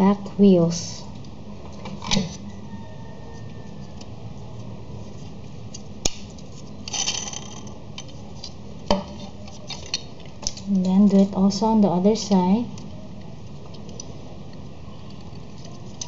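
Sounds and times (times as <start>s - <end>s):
low room noise: 0.0s - 16.0s.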